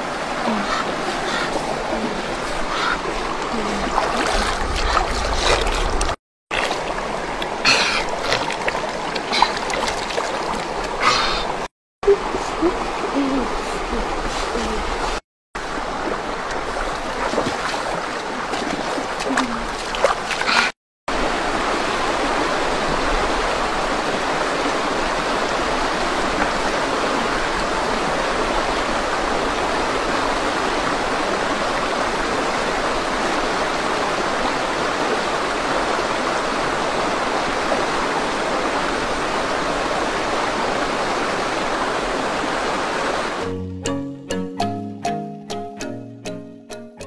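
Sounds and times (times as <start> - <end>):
stream rushing over rocks: 0.0 - 43.6.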